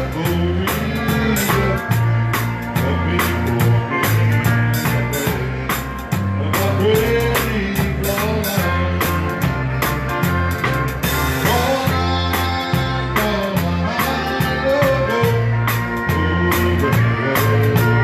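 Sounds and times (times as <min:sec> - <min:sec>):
person singing: 0:00.0 - 0:09.6, 0:11.4 - 0:18.0
bass and drums beat: 0:00.0 - 0:18.0
dance band playing: 0:00.0 - 0:18.0.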